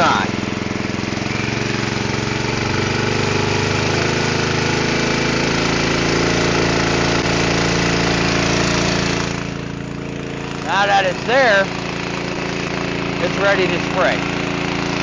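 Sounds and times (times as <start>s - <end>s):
small gas engine running: 0.0s - 15.0s.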